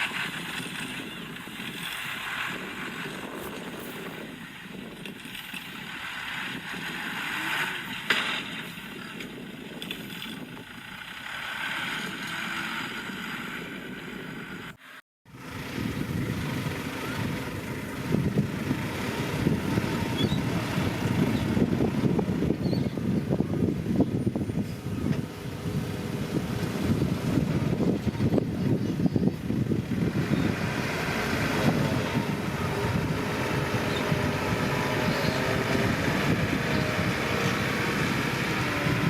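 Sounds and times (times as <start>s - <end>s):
heavy diesel machinery working: 0.0s - 39.0s.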